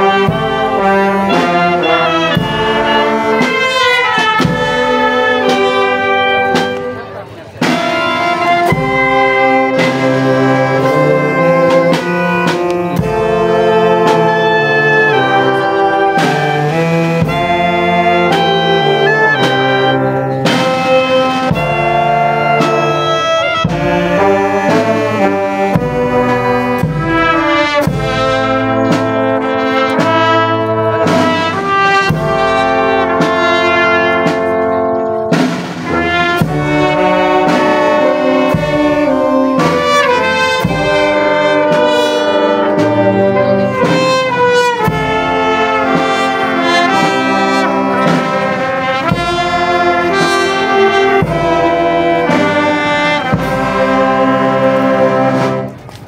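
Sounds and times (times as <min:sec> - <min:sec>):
brass band playing: 0:00.0 - 0:56.0.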